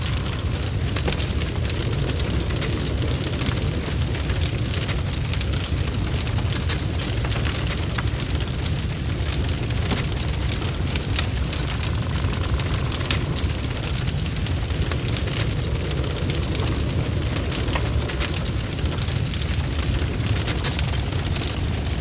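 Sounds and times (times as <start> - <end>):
low rumble of flames: 0.0 - 22.0
wood fire crackling: 0.0 - 22.0.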